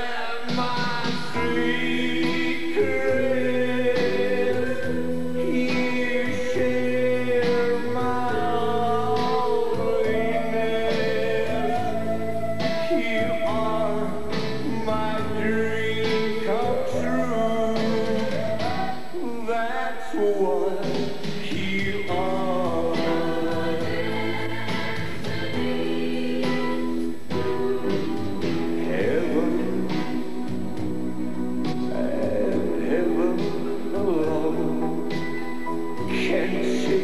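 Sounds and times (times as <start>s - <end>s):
band accompaniment: 0.0s - 19.7s, 20.7s - 37.0s
man singing: 0.0s - 30.6s, 31.8s - 35.2s, 36.0s - 37.0s.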